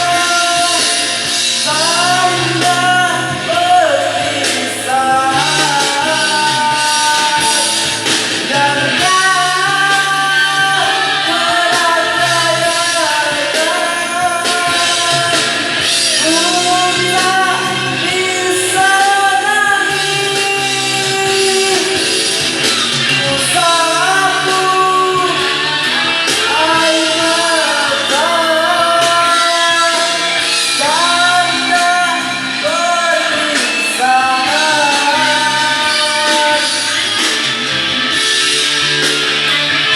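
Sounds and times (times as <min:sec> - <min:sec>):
band with guitar: 0:00.0 - 0:39.9
person singing: 0:00.0 - 0:39.9.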